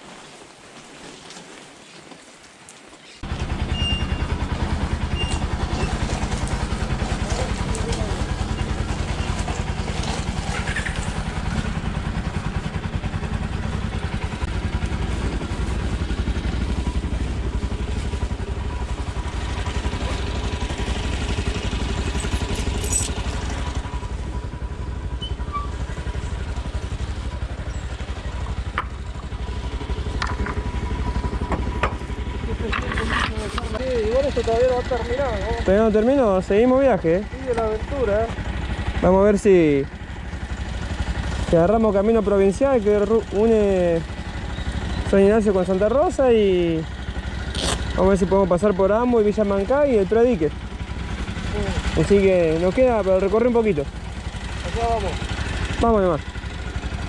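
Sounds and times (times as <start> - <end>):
motorcycle engine idling: 3.2 - 57.0.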